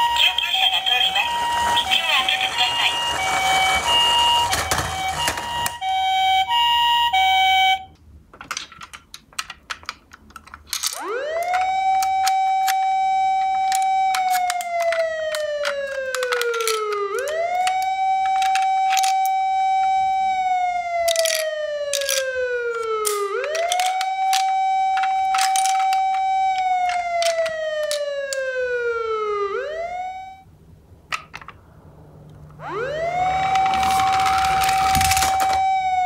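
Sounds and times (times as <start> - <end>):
toy electronic siren: 0.0 - 8.0, 10.7 - 30.5, 32.6 - 36.0.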